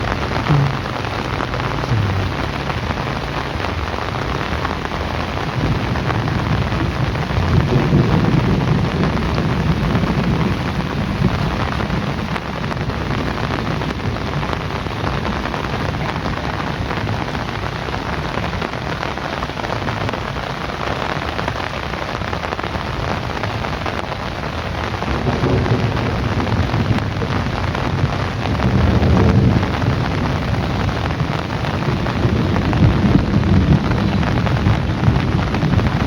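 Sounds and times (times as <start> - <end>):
heavy rain falling: 0.0 - 36.0
thunder rumbling: 0.0 - 36.0.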